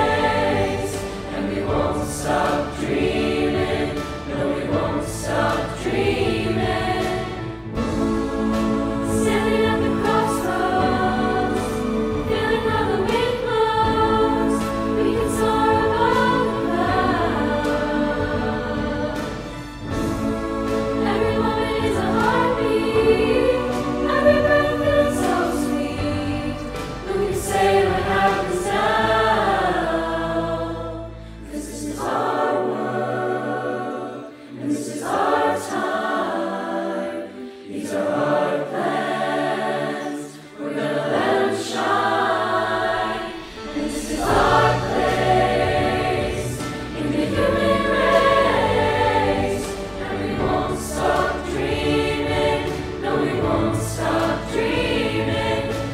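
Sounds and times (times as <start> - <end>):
low accompaniment: 0.0 - 31.1, 40.9 - 55.9
mixed-voice choir singing: 0.0 - 55.9.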